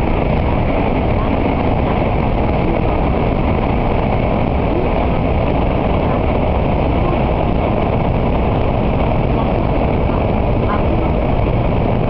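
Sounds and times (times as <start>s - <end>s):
train rumble in tunnel: 0.0s - 12.0s.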